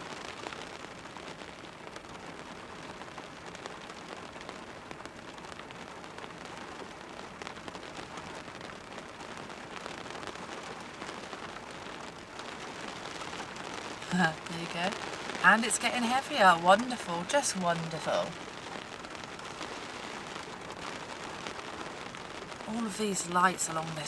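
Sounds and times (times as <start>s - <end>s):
rain pattering on car roof: 0.0s - 24.0s.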